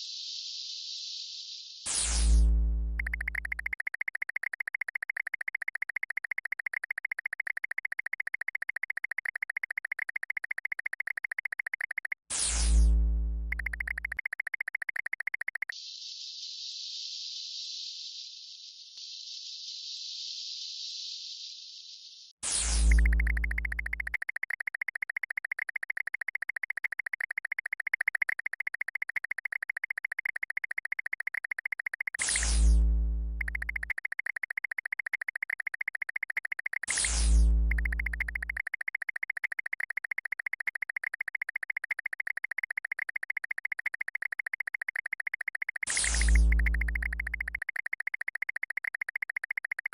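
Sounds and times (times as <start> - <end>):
high-pitched electronic chirping: 1.9 - 12.8, 13.4 - 16.3, 22.4 - 49.9.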